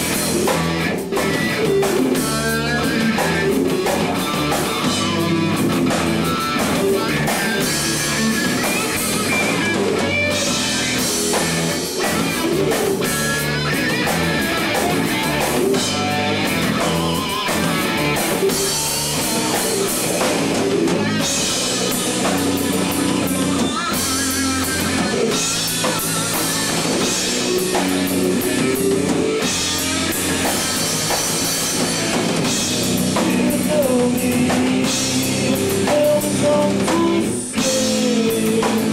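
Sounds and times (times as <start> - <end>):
drum kit: 0.0 - 38.9
rock guitar with bent notes: 0.0 - 38.9.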